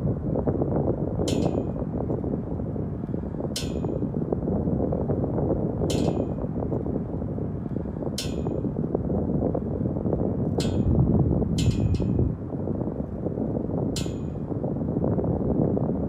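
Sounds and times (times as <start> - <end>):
low crackly rumble: 0.0 - 16.0.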